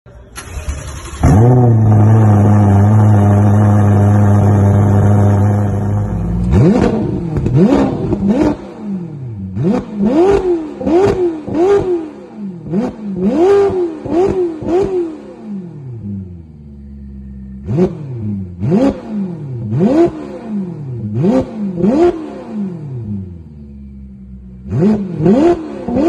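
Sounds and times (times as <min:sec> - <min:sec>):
engine revving: 0:00.1 - 0:26.0
sports car engine starting and idling: 0:00.1 - 0:26.0.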